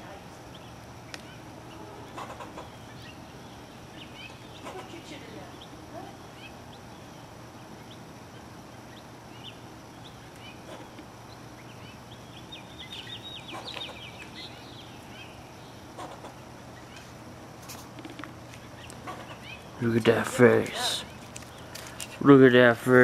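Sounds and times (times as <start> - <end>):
squirrel chirping and chattering: 0.5 - 17.1, 18.0 - 22.2.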